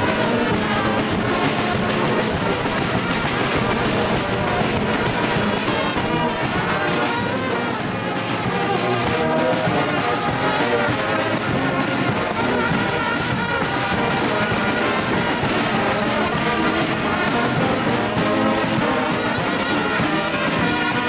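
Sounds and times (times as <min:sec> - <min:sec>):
drums: 0:00.0 - 0:21.0
marching brass band playing: 0:00.0 - 0:21.0.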